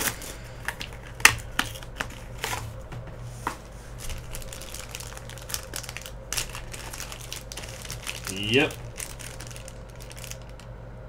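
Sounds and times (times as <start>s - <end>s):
plastic wrapper crinkling: 0.0s - 2.6s, 3.9s - 10.7s.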